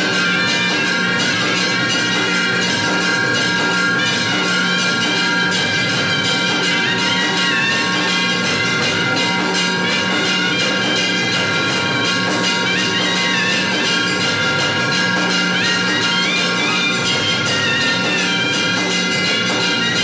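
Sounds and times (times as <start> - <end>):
bells clanging: 0.0 - 20.0
drums beating: 0.0 - 20.0
wavering instrumental tones: 0.0 - 20.0.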